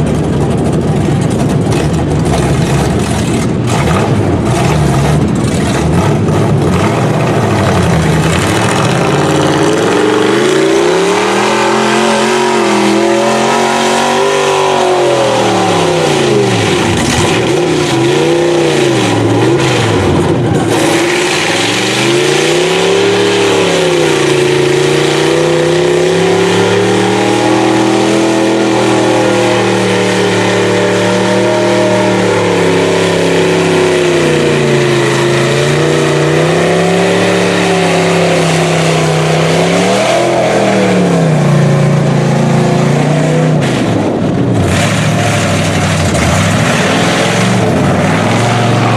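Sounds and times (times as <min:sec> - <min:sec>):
truck engine revving hard: 0:00.0 - 0:48.9.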